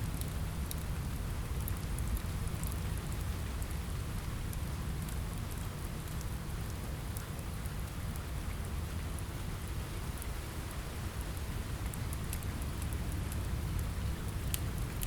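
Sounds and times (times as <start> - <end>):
rain on a window: 0.0 - 15.0.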